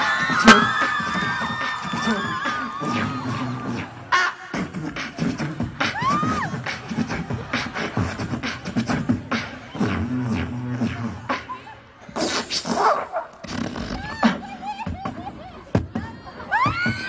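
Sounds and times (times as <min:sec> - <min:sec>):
sliding vocal tone: 0:00.0 - 0:14.4
beatboxing into a microphone: 0:00.0 - 0:17.0.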